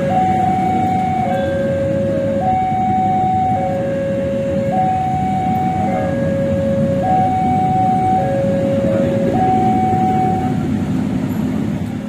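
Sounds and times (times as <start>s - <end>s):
level crossing alarm: 0.0s - 11.0s
low rumble of engines: 0.0s - 12.0s.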